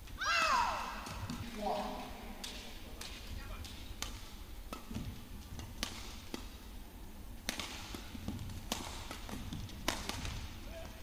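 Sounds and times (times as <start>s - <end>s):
low arena hum: 0.0s - 11.0s
rackets hitting shuttlecock: 0.8s - 6.8s, 7.4s - 11.0s.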